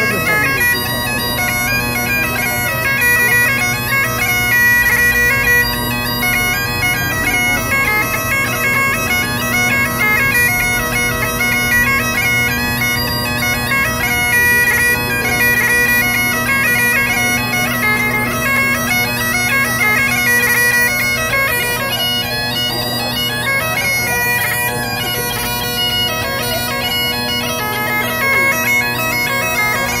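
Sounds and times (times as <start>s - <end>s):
bagpipe playing a tune: 0.0s - 30.0s.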